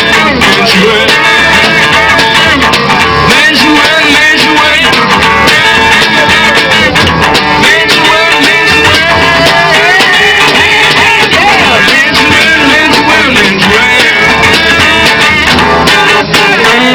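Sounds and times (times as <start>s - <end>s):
street band with guitar: 0.0s - 16.9s.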